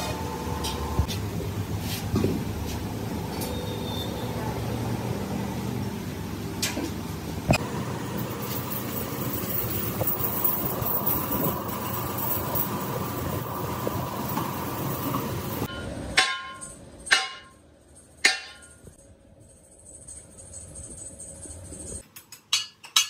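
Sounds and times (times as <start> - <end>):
workshop machinery noise: 0.0 - 18.9.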